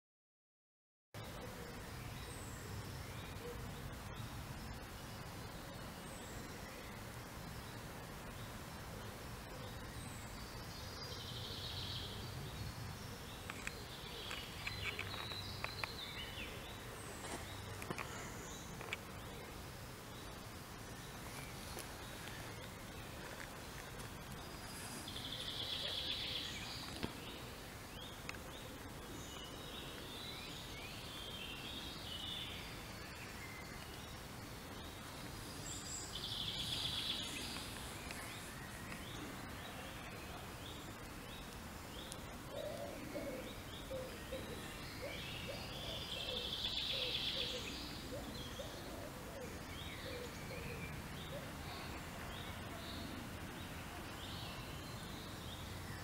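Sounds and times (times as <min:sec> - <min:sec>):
birds singing: 0:01.2 - 0:56.0
outdoor background noise: 0:01.2 - 0:56.0.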